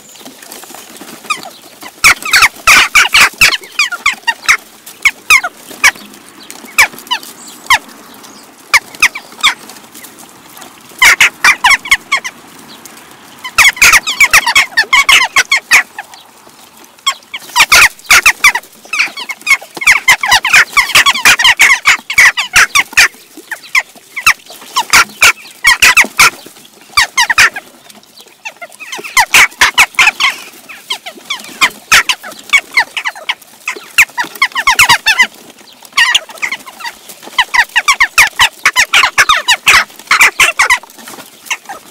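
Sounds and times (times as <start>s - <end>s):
flock of jackdaws calling: 0.0s - 41.9s.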